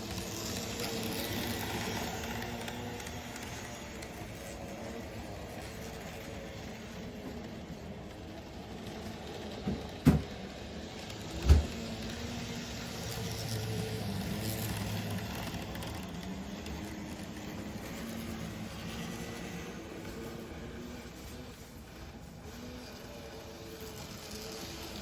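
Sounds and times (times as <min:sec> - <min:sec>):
model train motor whir: 0:00.0 - 0:25.0.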